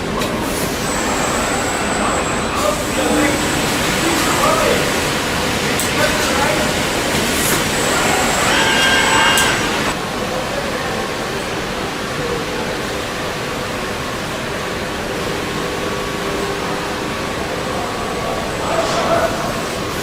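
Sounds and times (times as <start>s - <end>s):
factory machinery hum: 0.0s - 20.0s.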